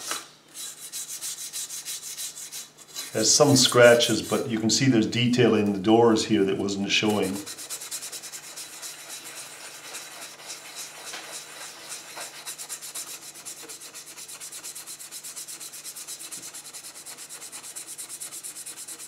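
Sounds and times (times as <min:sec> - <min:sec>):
toothbrush scrubbing metal: 0:00.0 - 0:04.6, 0:07.0 - 0:19.0.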